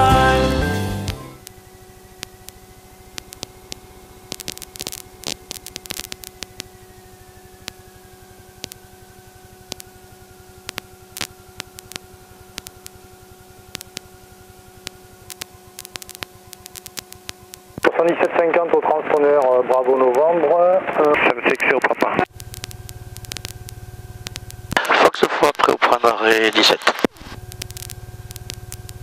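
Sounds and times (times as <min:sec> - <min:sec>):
radio hiss and hum: 0:00.0 - 0:29.0
crackling clicks: 0:01.1 - 0:01.6, 0:02.2 - 0:06.8, 0:07.6 - 0:07.8, 0:08.6 - 0:08.8, 0:09.6 - 0:10.0, 0:10.6 - 0:13.0, 0:13.6 - 0:14.2, 0:14.8 - 0:29.0.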